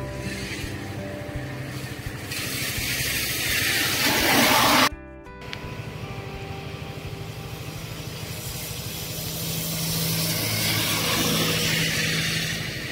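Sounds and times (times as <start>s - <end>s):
engine humming with fast pulse: 0.0s - 12.9s.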